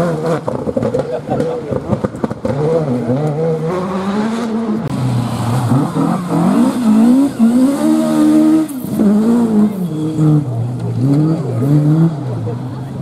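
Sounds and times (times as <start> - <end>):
rally car engines revving: 0.0 - 13.0.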